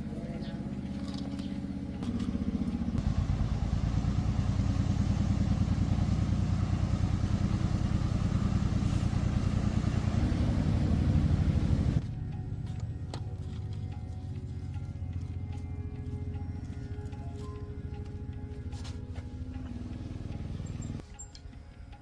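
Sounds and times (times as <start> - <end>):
motorcycle engine revving: 0.0 - 21.1.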